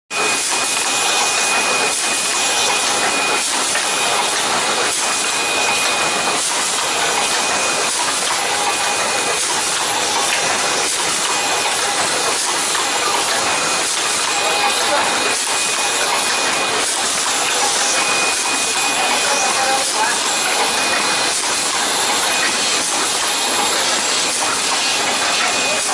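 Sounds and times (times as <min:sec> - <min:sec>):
machine knocking: 0:00.2 - 0:25.9.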